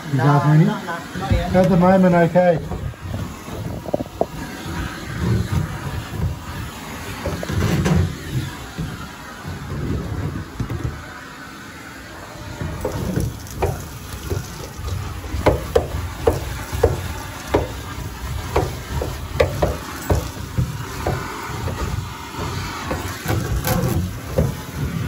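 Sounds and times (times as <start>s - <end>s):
vacuum hose rumbling: 1.0s - 11.4s, 12.0s - 25.0s
debris rattling in hose: 1.2s - 11.2s, 12.3s - 25.0s.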